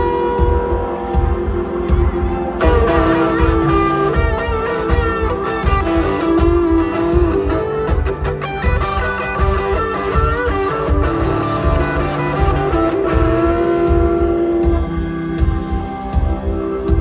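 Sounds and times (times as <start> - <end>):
electric guitar holding notes: 0.0 - 17.0
kick drum beat: 0.0 - 17.0
live country band playing: 0.0 - 17.0.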